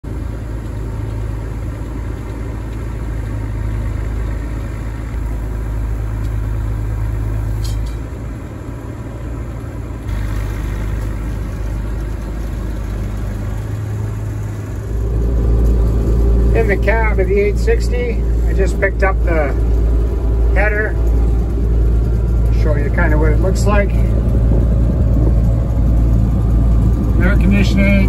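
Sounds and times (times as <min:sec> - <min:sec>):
combine diesel engine rumbling: 0:00.0 - 0:28.0.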